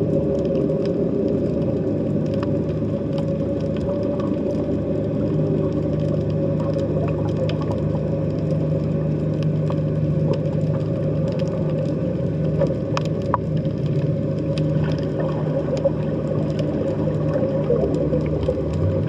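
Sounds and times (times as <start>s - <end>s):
faint underwater clicks: 0.0s - 19.0s
underwater low drone: 0.0s - 19.0s.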